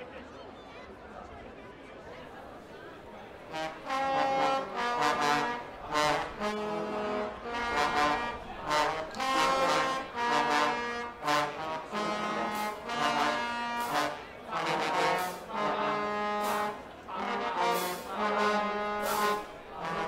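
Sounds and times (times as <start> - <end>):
brass band playing loud chords: 3.4 - 20.0.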